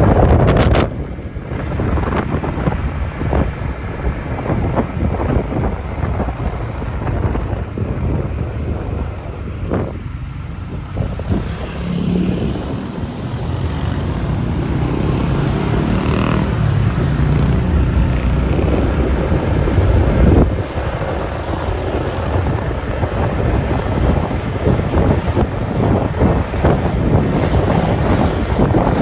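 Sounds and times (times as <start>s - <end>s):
low road rumble: 0.0s - 29.0s
vehicle engines running: 0.0s - 29.0s.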